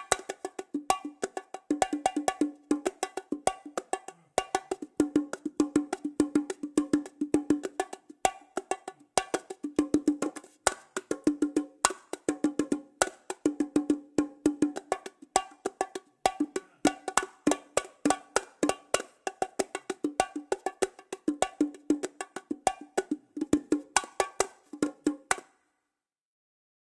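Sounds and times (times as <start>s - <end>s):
toy bongo drums playing: 0.0s - 25.5s.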